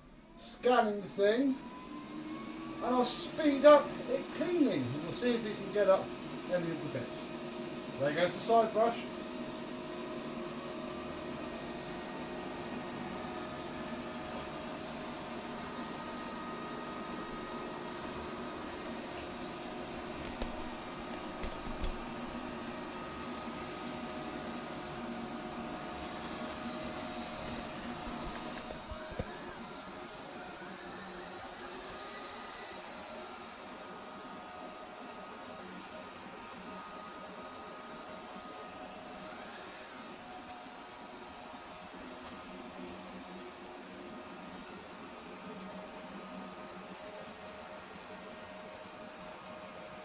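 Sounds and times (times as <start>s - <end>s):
robot vacuum cleaner humming: 0.2s - 50.0s.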